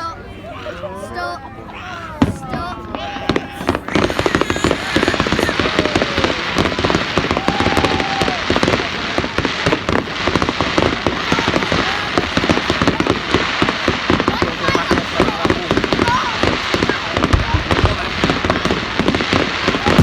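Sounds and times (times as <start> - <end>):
fireworks crackling and banging: 2.0 - 20.0.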